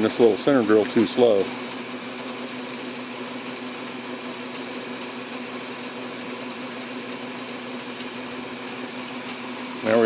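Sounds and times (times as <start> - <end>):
lathe running with even hum: 0.0 - 10.0.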